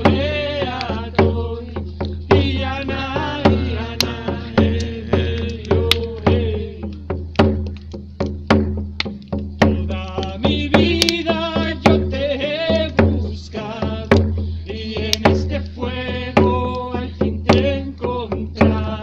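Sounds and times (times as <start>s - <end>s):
person singing a chant: 0.0s - 7.0s, 9.8s - 19.0s
drum beaten steadily: 0.0s - 19.0s.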